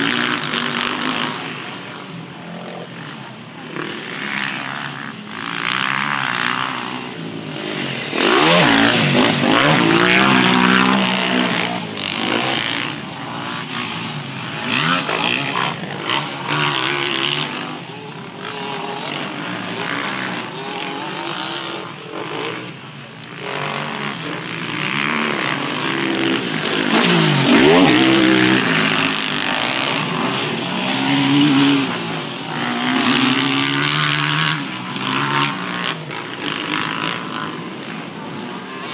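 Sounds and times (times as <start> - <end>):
motocross bike engines revving: 0.0 - 38.9
motorbike passing close by: 0.0 - 38.9.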